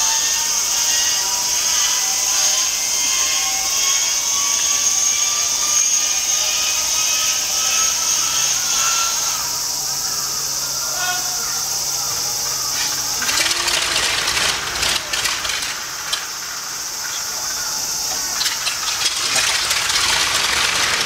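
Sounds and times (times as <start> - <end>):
high-pitched hiss: 0.0 - 21.0
inertia starter whine: 0.0 - 21.0.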